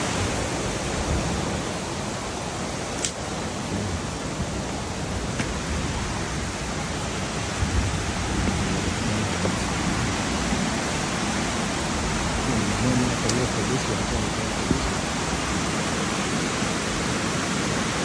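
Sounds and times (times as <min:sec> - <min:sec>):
falling rain: 0:00.0 - 0:18.0
fast-flowing river rushing: 0:00.0 - 0:18.0.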